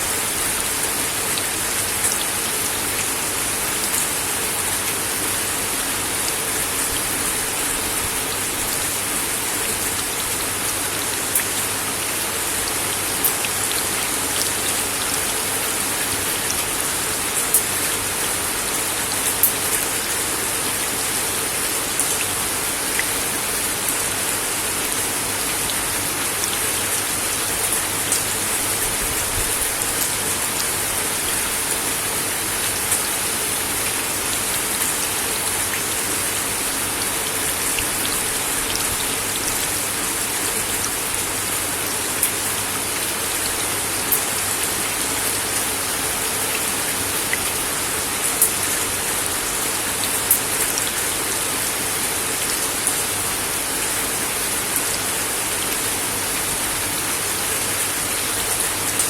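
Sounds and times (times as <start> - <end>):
rain on a wooden deck: 0.0 - 59.0.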